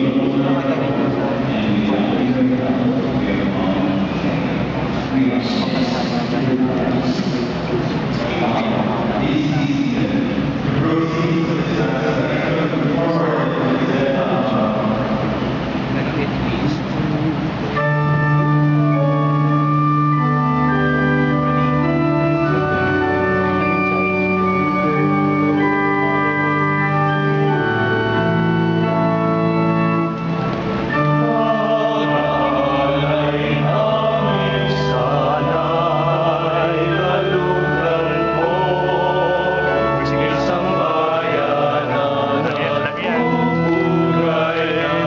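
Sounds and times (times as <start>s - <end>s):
male choir singing a hymn: 0.0s - 15.5s, 17.8s - 30.1s, 30.9s - 45.0s
church organ playing chords: 0.0s - 45.0s.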